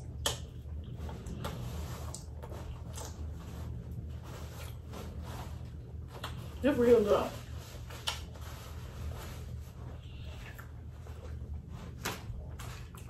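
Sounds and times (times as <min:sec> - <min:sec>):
steady low hum: 0:00.0 - 0:13.0
paper towel rustling and crinkling: 0:00.5 - 0:13.0.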